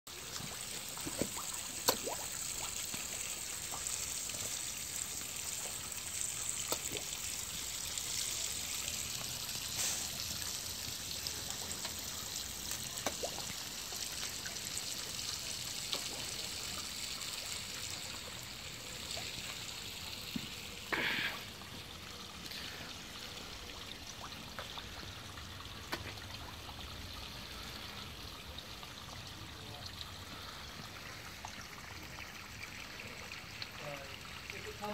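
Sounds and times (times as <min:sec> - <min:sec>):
water trickling in a pond: 0:00.1 - 0:34.9.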